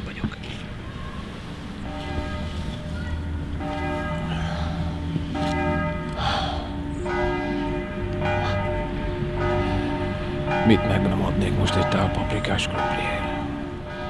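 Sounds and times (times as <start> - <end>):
church bells ringing: 0.7 - 14.0.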